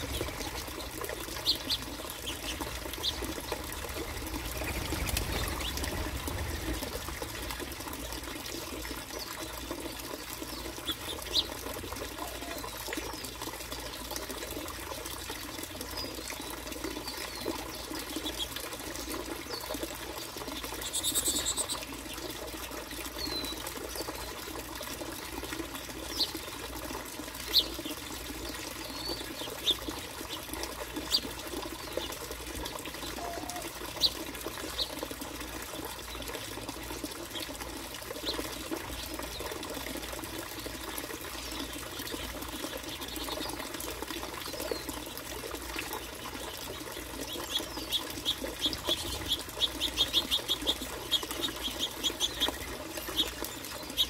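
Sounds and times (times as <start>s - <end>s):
trickling water: 0.0s - 54.0s.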